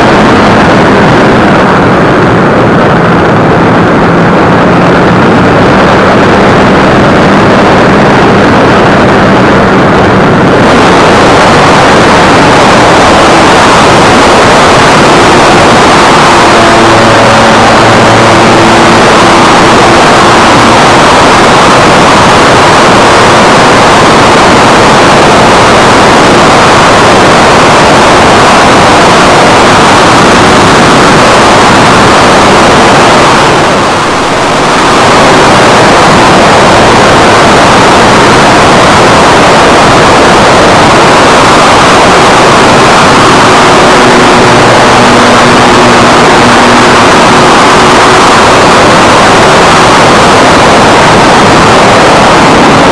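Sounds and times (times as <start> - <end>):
air rushing past model plane: 0.0 - 52.9.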